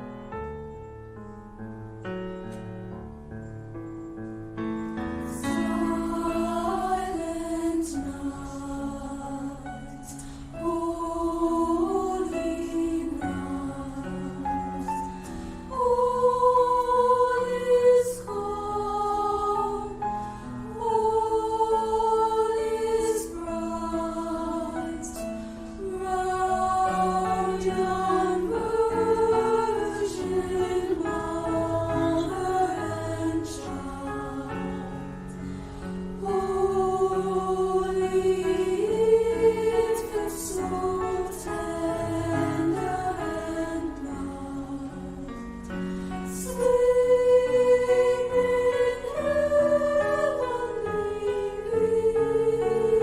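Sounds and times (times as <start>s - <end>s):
choir singing: 5.0s - 53.0s.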